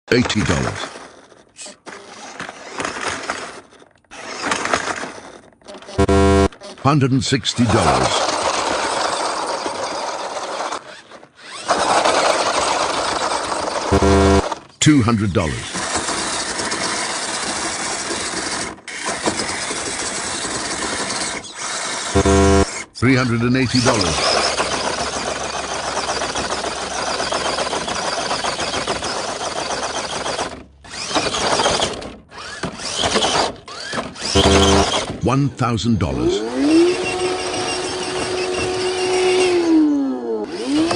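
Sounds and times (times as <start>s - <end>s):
rc car electric motor running: 0.9s - 6.7s, 7.8s - 14.6s, 15.6s - 22.8s, 23.7s - 35.1s, 36.5s - 40.9s.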